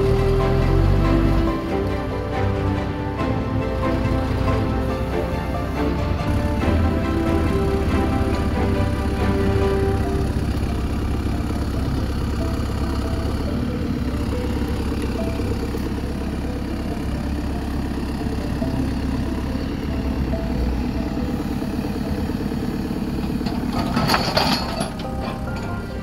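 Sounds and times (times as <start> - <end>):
diesel engine under heavy load: 0.0 - 26.0.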